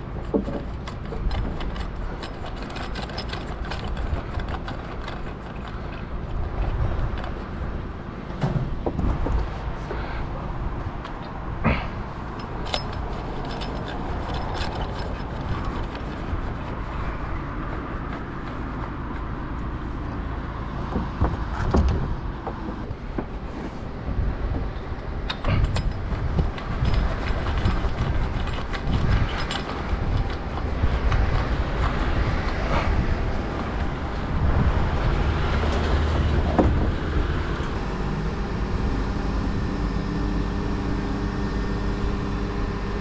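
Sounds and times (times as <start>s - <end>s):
truck engine low rumble: 0.0s - 43.0s.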